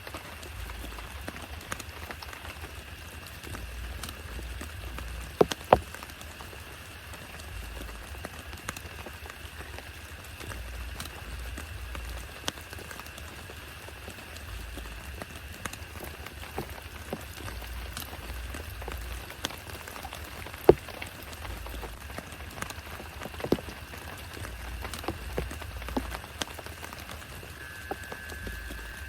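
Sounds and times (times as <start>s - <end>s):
loud close raindrops: 0.0s - 29.0s
steady rain falling: 0.0s - 29.0s.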